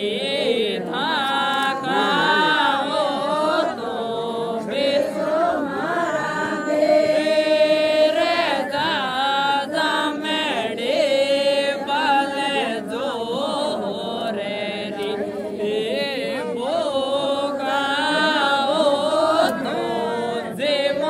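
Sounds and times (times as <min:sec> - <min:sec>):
group singing without instruments: 0:00.0 - 0:21.0.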